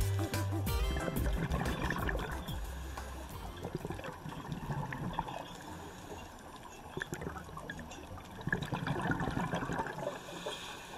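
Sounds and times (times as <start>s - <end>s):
water bubbling and gurgling: 0.8s - 10.9s.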